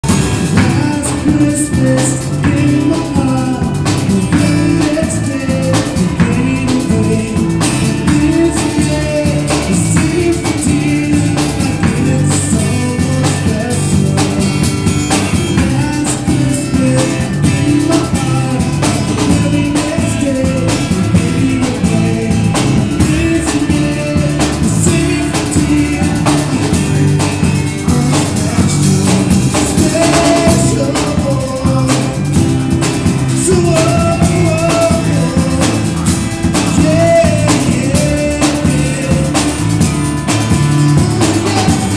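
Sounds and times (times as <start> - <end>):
acoustic guitar: 0.0 - 41.9
drum kit beat: 0.0 - 41.9
electric bass: 0.0 - 41.9
man singing: 0.0 - 41.9.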